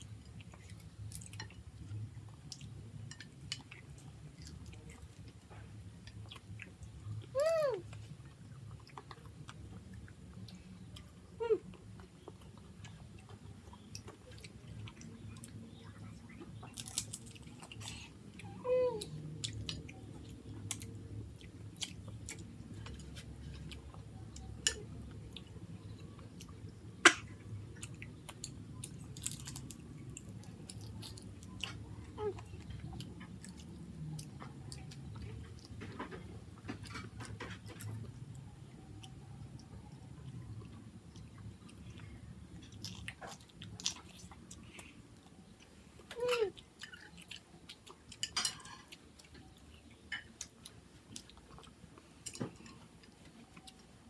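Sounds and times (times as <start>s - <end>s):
children chewing: 0.0s - 54.0s.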